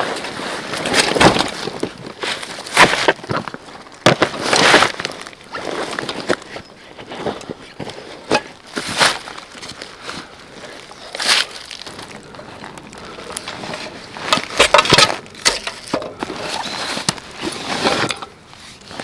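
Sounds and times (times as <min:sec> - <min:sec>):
crunching and rustling: 0:00.0 - 0:19.0.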